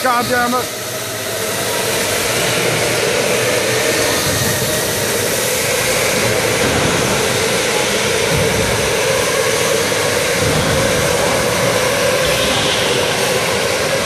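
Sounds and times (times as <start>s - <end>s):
electric go-karts whirring: 0.0s - 14.0s.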